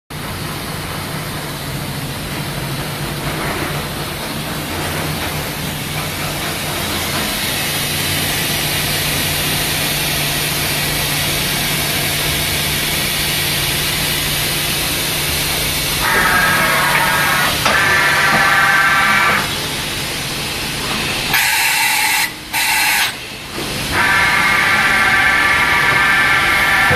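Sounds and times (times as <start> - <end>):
machine hum with hiss: 0.2 - 26.9.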